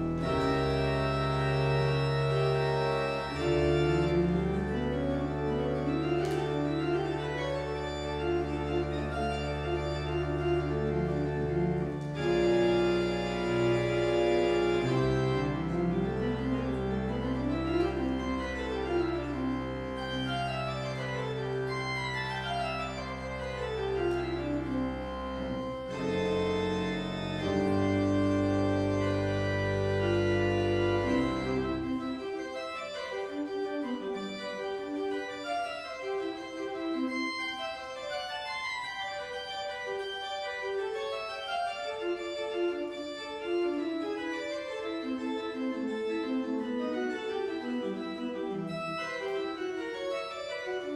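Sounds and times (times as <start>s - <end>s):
church organ playing: 0.0s - 50.9s.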